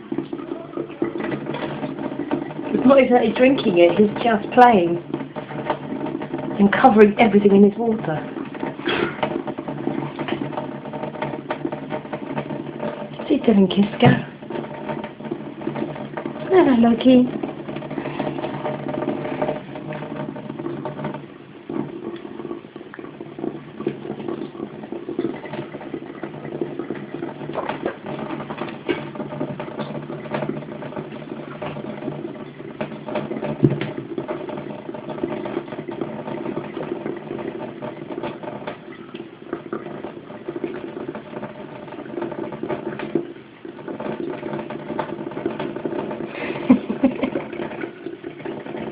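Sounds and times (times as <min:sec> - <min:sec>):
tap running into sink: 0:00.0 - 0:48.9
water splashes and ticks: 0:00.0 - 0:48.9.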